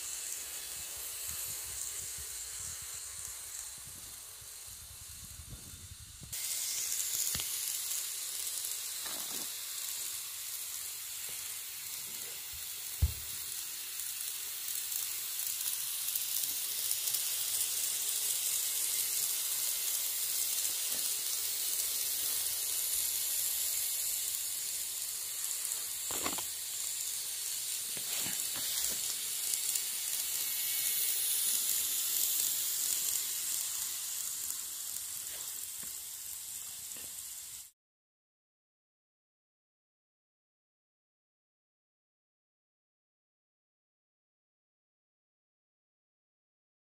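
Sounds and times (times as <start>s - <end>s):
model train running on track: 0.0s - 37.7s
wheels and motor hissing: 0.0s - 37.8s.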